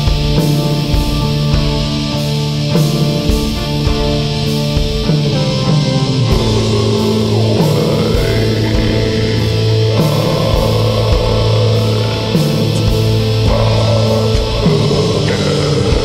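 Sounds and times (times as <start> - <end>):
distorted electric guitar chords: 0.0 - 16.0
drum and cymbal hits: 0.0 - 16.0.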